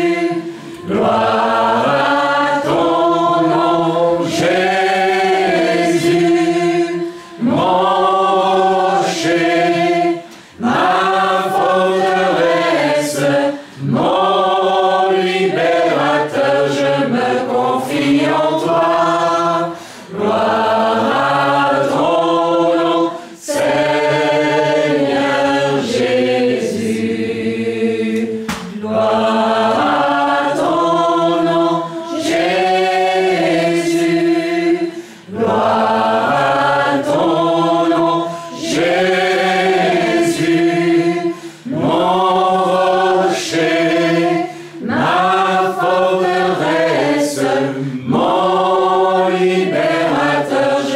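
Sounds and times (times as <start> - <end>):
voices singing together: 0.0 - 50.9.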